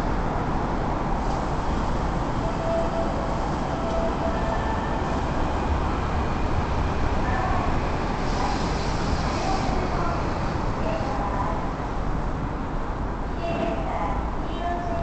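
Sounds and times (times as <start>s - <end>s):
electric train moving on rails: 0.0s - 15.0s.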